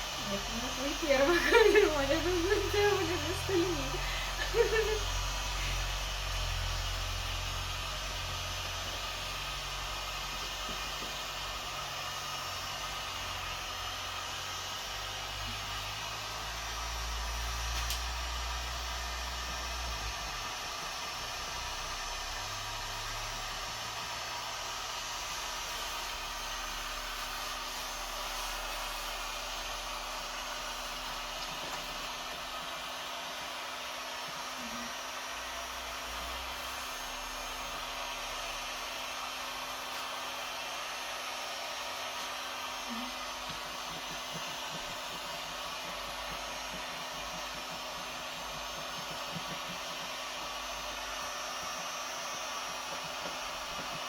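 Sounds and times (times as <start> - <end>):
heat gun blowing hot air: 0.0 - 54.0.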